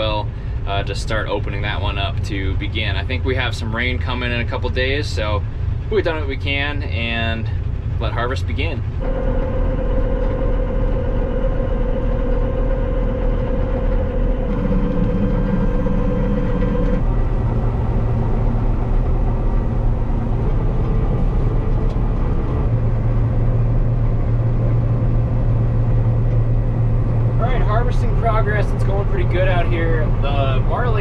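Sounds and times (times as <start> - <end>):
combine harvester engine drone: 0.0 - 31.0
steady high whine: 0.0 - 31.0.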